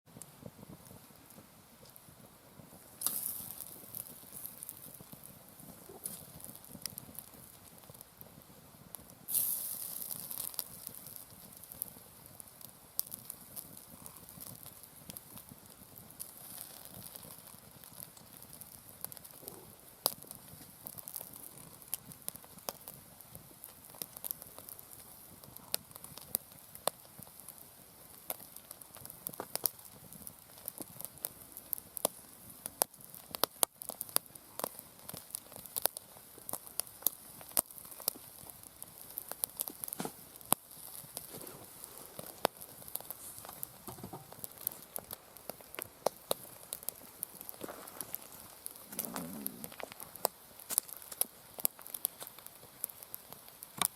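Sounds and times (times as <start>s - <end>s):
wood fire crackling and popping: 0.1s - 53.9s
fire hissing: 0.2s - 53.9s.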